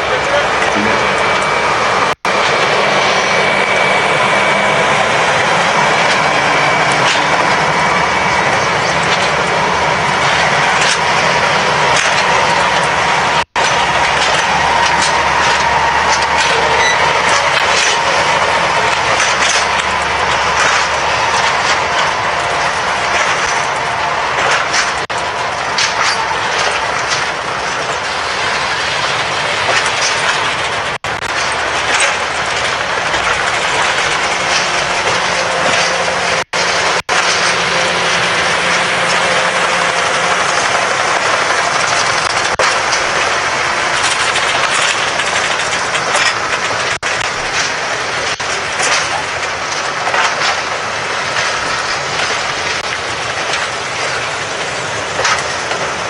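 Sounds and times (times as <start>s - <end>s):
railroad cars rumbling past: 0.0s - 56.0s.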